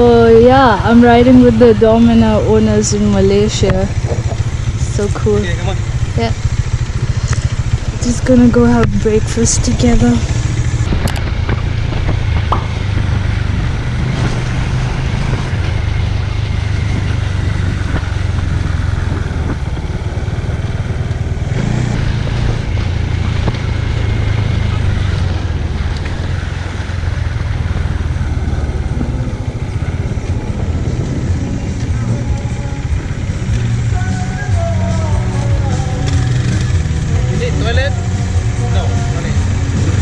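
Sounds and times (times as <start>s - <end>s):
wind rush on microphone: 0.0s - 37.8s
motorcycle engine running: 0.0s - 40.0s.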